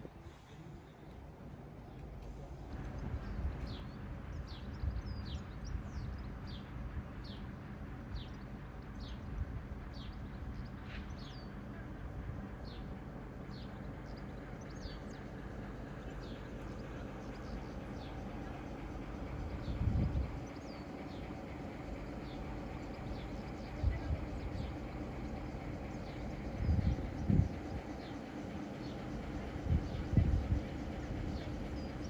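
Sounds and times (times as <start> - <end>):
low steady rumble: 0.0 - 32.0.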